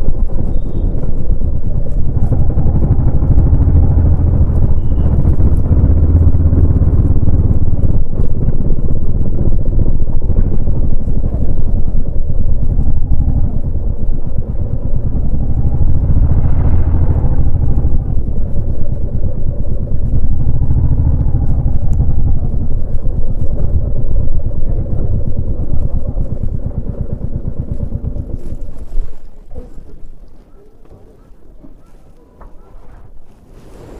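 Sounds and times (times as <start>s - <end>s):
motorcycle engine thumping: 0.9s - 28.9s.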